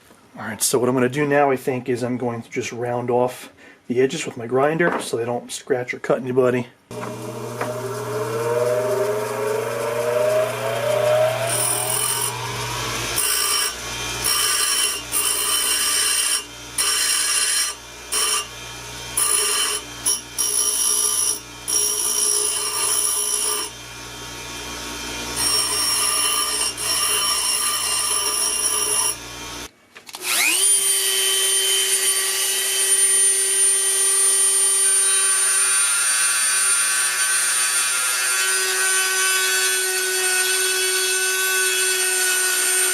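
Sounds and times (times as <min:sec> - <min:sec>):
electric grinder grinding steel: 0:06.9 - 0:42.9.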